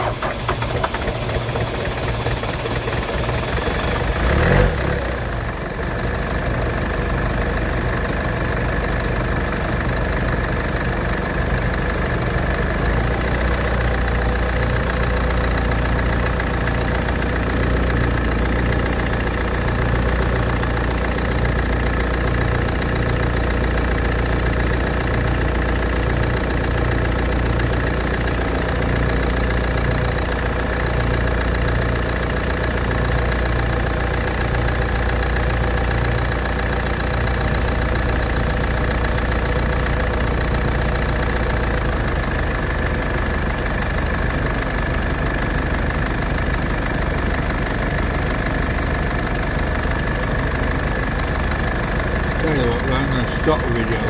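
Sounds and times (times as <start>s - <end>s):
diesel engine idling: 0.0s - 54.0s
second van engine running: 10.2s - 54.0s.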